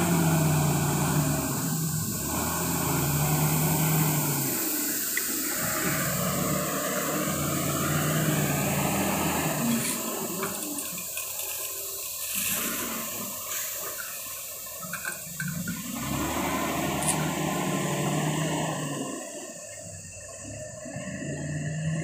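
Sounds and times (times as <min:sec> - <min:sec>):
gravel pouring into truck: 0:00.0 - 0:18.7
diesel engine drone: 0:00.0 - 0:22.0.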